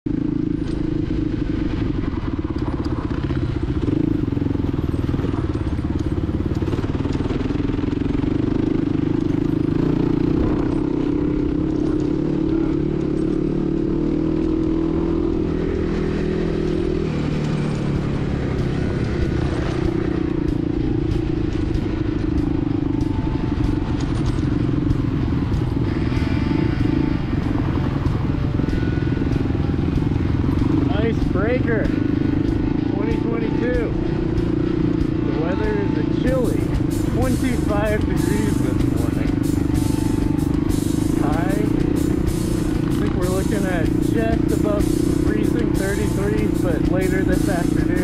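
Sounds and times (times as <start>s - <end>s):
dirt bike engine running: 0.1s - 48.0s
sharp ticks and rattles: 0.1s - 48.0s.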